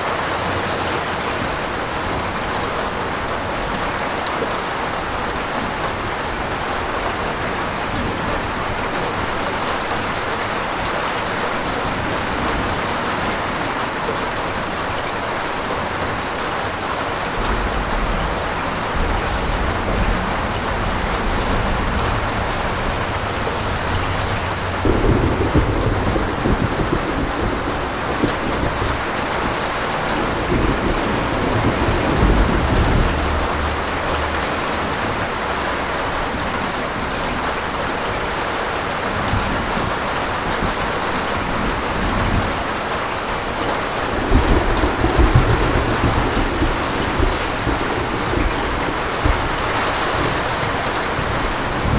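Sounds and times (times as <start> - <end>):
heavy rain: 0.0 - 51.9
thunder rumbling: 0.0 - 51.9.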